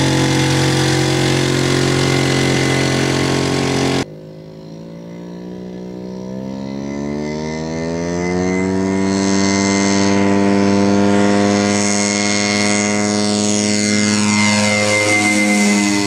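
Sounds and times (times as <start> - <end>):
ultralight engine and propeller: 0.0 - 16.0.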